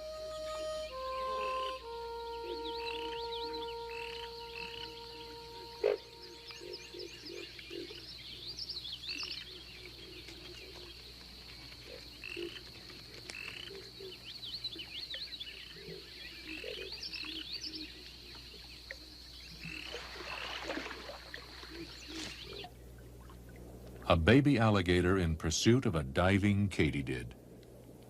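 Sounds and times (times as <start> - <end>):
high insect drone: 0.0 - 22.9
frogs croaking: 0.9 - 24.1.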